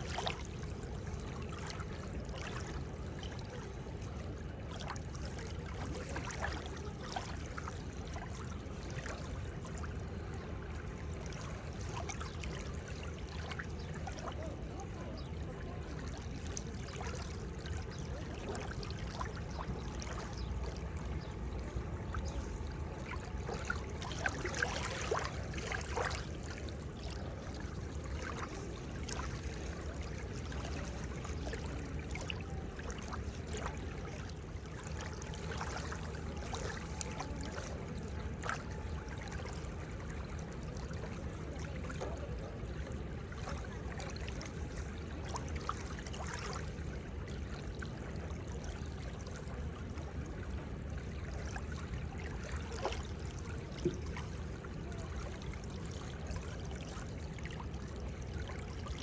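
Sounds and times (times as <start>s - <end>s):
seawater washing at shoreline: 0.0s - 59.0s.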